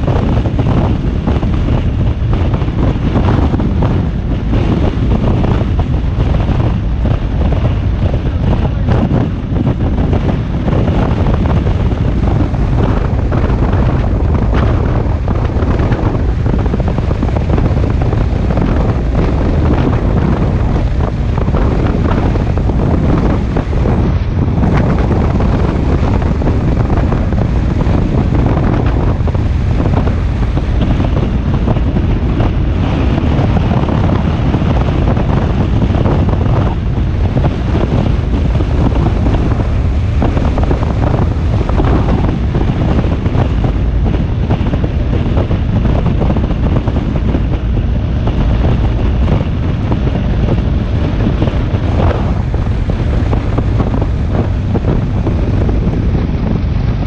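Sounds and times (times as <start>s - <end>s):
motorcycle and road rumble: 0.0s - 57.0s
wind rush on microphone: 0.0s - 57.0s.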